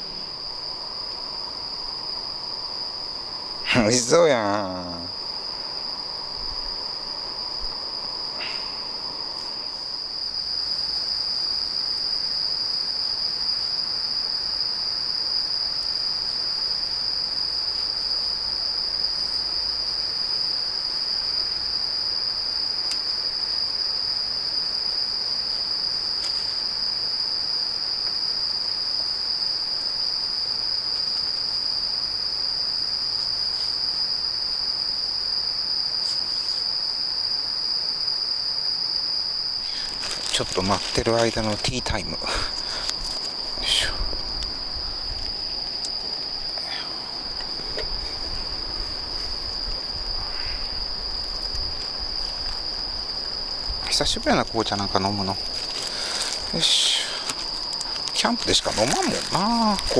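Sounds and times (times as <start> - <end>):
crickets chirring: 0.0 - 59.9
faint hiss: 0.0 - 59.9.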